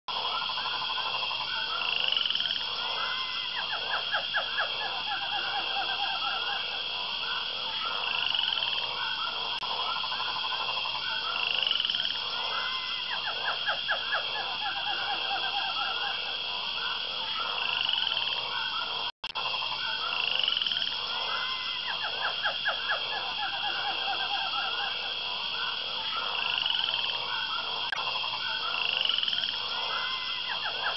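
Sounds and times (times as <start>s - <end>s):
rapid pulsed animal trills: 0.1s - 30.9s.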